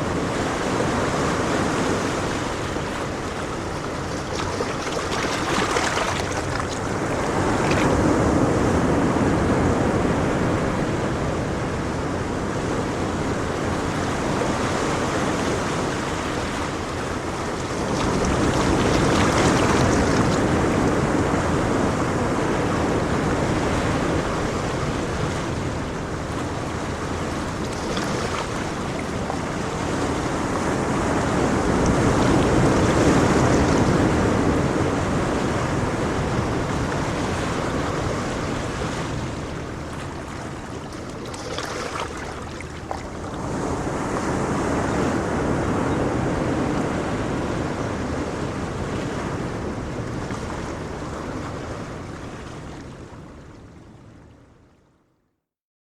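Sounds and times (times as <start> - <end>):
ocean waves washing: 0.0 - 53.5.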